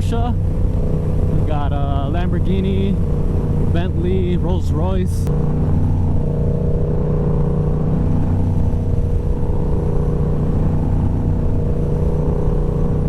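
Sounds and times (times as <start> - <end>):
motorcycle engine droning: 0.0 - 13.0
wind and road rush: 0.0 - 13.0.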